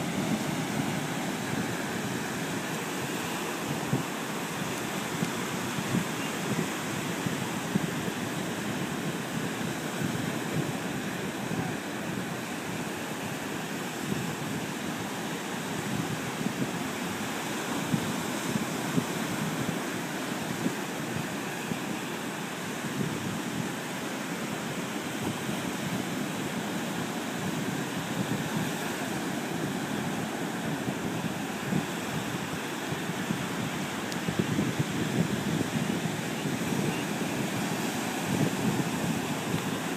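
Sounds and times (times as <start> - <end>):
ocean surf: 0.0 - 39.9
wind buffeting microphone: 0.0 - 39.9.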